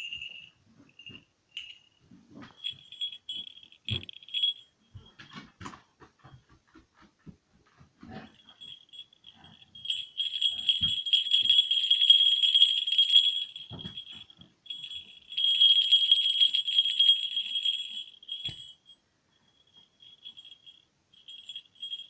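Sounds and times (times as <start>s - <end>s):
small bells jingling: 0.0s - 6.5s, 7.6s - 22.0s.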